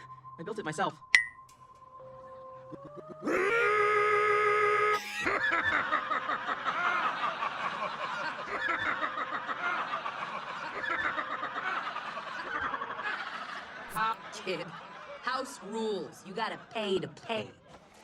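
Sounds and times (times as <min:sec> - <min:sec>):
crowd laughing and jeering: 0:02.8 - 0:18.0.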